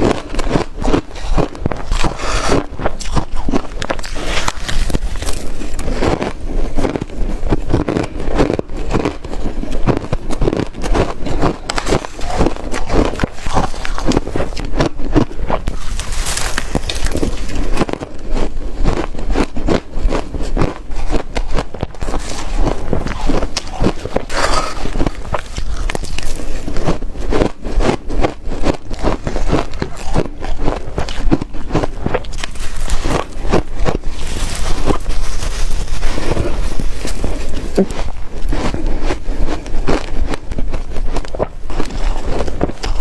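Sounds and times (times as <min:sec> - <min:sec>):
person crunching ice: 0:00.0 - 0:43.0.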